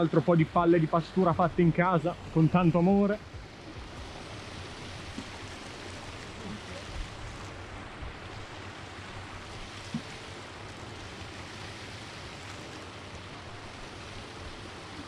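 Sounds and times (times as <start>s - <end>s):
running water hissing: 0.0s - 15.0s.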